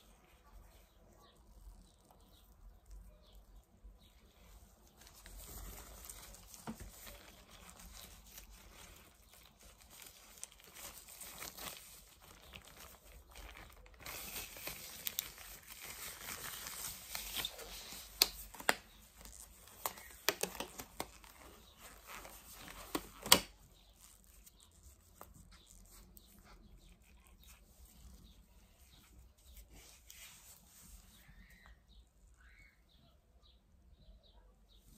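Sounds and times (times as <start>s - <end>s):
latex gloves rustling: 0.0s - 31.7s.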